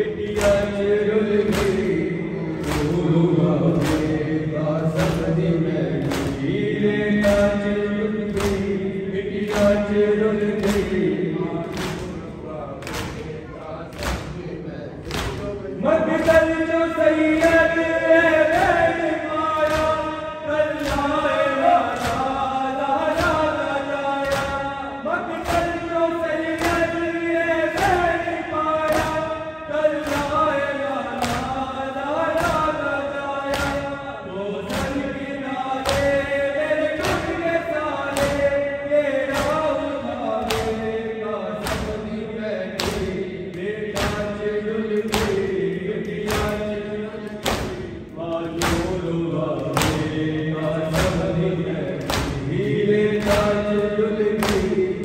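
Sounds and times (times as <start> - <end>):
men chanting a lament: 0.0 - 55.0
chest beating slaps: 0.2 - 34.0, 34.6 - 55.0.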